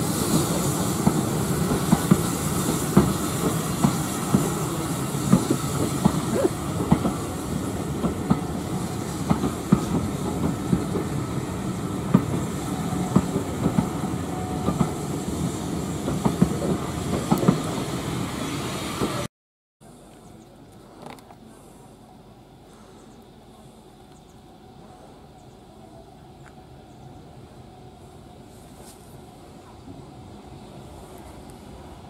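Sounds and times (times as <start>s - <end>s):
train wheels rumbling on rails: 0.0s - 19.3s, 20.0s - 32.0s.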